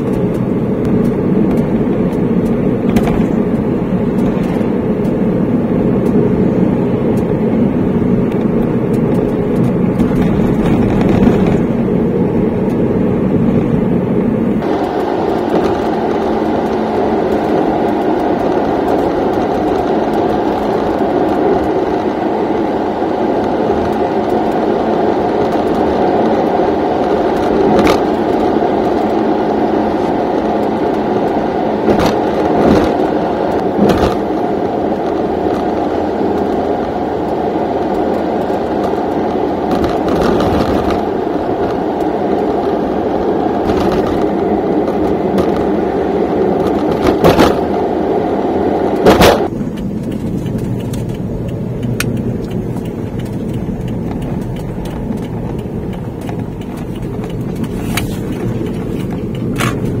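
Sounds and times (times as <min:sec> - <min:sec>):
vehicle road and engine noise: 0:00.0 - 1:00.0.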